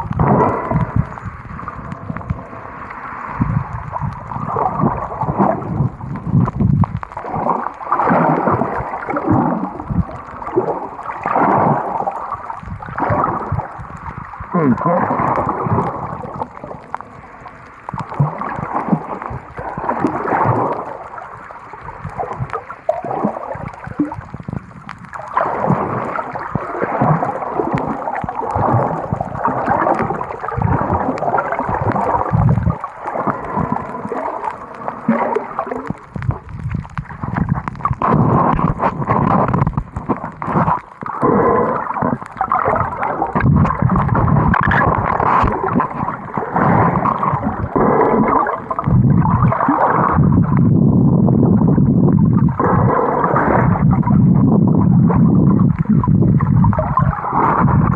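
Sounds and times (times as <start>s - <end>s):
muffled underwater water rushing: 0.0s - 57.9s.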